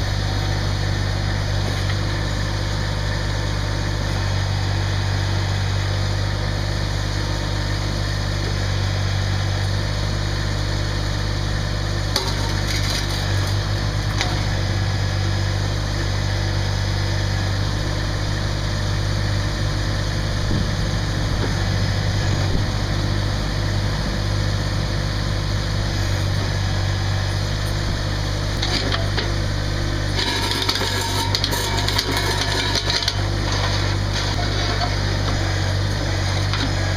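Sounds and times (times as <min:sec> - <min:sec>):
tractor diesel engine idling: 0:00.0 - 0:36.9.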